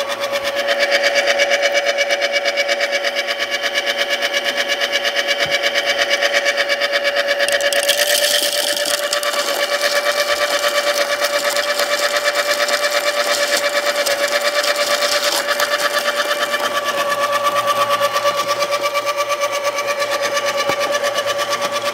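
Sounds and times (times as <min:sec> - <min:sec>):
coffee grinder motor whine: 0:00.0 - 0:21.9.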